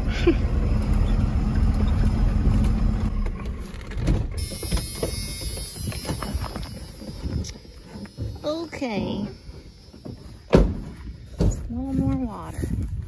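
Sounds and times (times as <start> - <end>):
road rumble: 0.0 - 13.0
truck engine hum: 0.0 - 13.0
knocks and rattles: 0.8 - 12.4.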